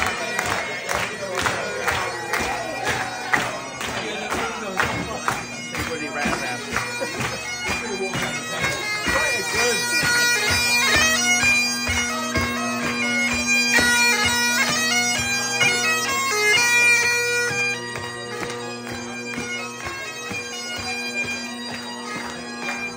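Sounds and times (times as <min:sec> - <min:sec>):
bagpipe playing: 0:00.0 - 0:22.9.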